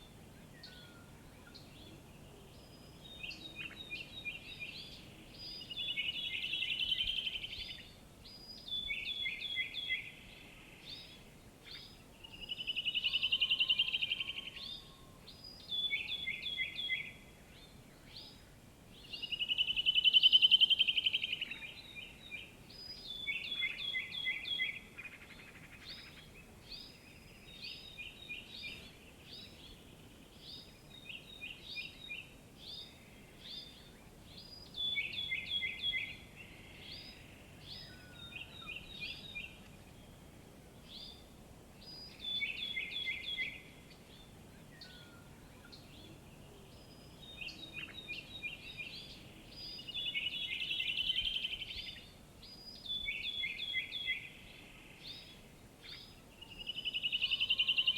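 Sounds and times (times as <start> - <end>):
songbird singing sharp notes: 0.0 - 57.9.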